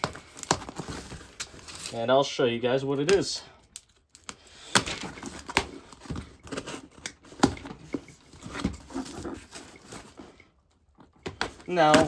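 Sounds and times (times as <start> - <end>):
packaging rustling and scraping: 0.0 - 2.2, 3.0 - 12.0.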